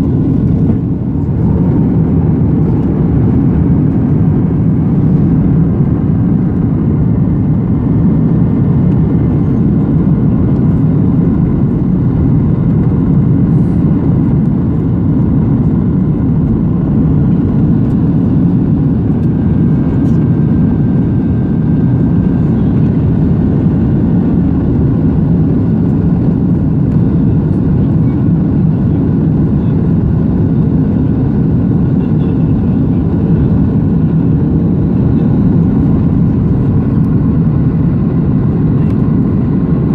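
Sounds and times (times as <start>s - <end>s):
airplane cabin low rumble: 0.0s - 39.9s.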